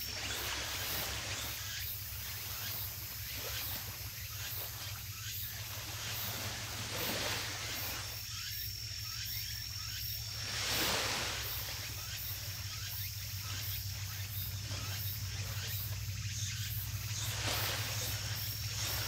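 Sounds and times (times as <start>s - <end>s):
high insect whine: 0.0s - 19.0s
insects chirping: 0.0s - 19.0s.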